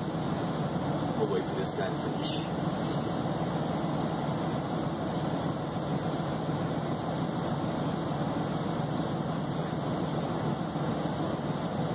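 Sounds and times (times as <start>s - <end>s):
air conditioner running: 0.0s - 11.9s
truck engine idling: 0.0s - 11.9s.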